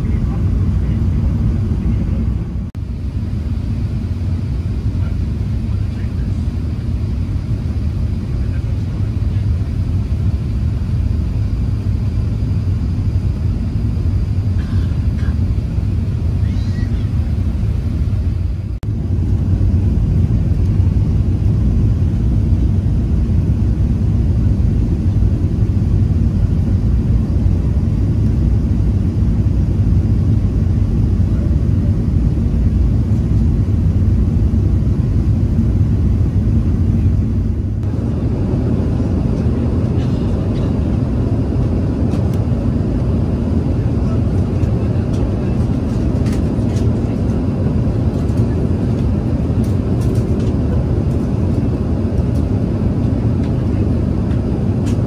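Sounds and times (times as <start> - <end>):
airflow noise: 0.0 - 55.0
airplane cabin engine rumble: 0.0 - 55.0.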